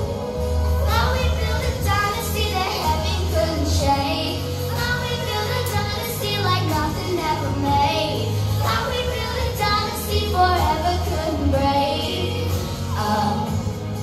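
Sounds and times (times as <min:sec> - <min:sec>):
backing music: 0:00.0 - 0:14.0
child singing into microphone: 0:00.8 - 0:13.7.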